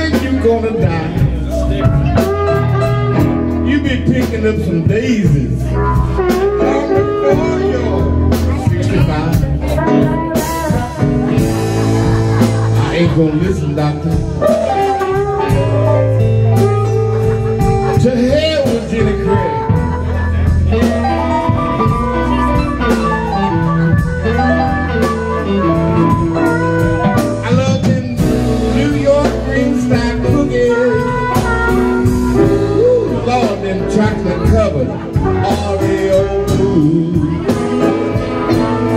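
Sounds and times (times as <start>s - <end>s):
electric guitar: 0.0s - 38.9s
live blues band playing: 0.0s - 38.9s.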